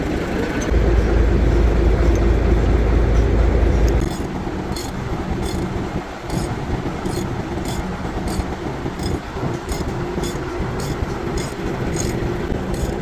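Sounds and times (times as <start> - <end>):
low mechanical rumble: 0.0 - 13.0
loud deep drone: 0.7 - 13.0.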